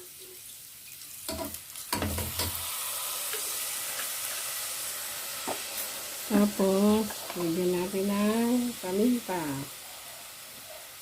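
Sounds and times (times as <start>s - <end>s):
pork sizzling in a pan: 0.0s - 11.0s.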